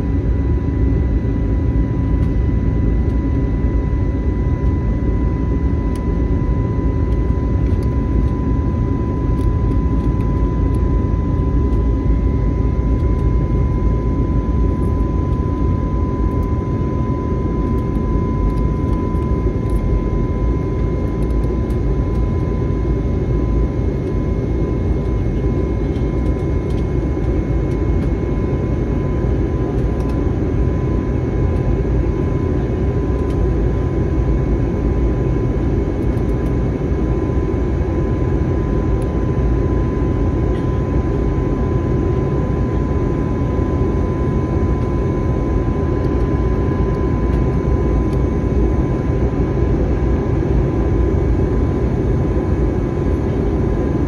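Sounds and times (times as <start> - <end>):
high whine: 0.0 - 54.0
jet engine and airflow roar: 0.0 - 54.0.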